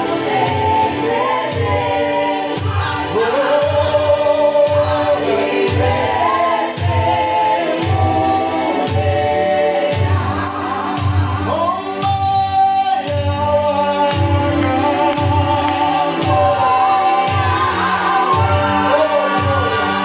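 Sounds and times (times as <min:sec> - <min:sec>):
group singing gospel song: 0:00.0 - 0:20.0
instrumental accompaniment with beat: 0:00.0 - 0:20.0.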